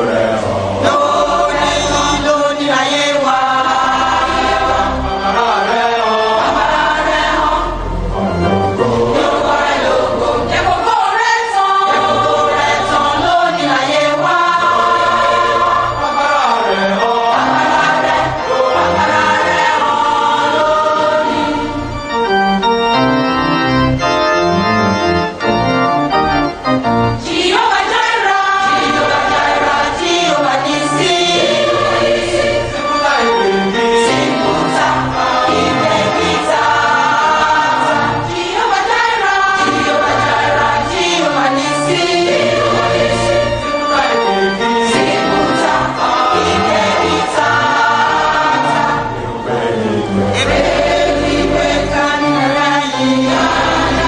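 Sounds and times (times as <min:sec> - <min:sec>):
choir singing gospel music: 0:00.0 - 0:54.0
organ accompaniment: 0:00.0 - 0:54.0.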